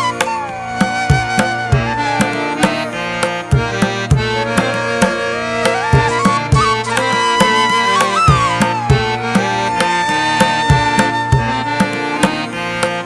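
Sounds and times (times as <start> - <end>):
gliding melody: 0.0 - 13.0.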